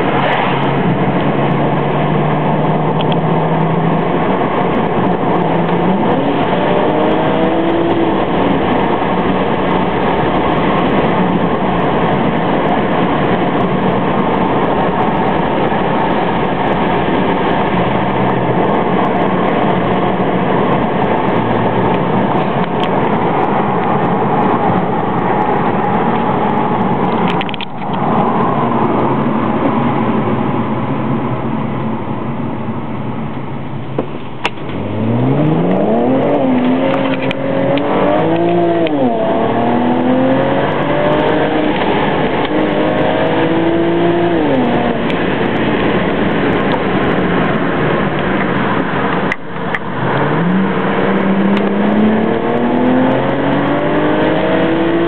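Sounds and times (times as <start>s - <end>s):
car engine drone: 0.0s - 55.0s
road and wind noise: 0.0s - 55.0s.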